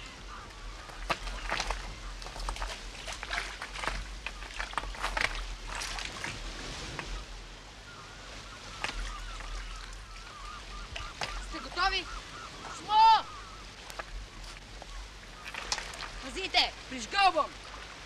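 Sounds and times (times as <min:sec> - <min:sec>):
faint bird calls: 0:00.0 - 0:05.5, 0:06.1 - 0:17.9
water sloshing: 0:00.0 - 0:18.0.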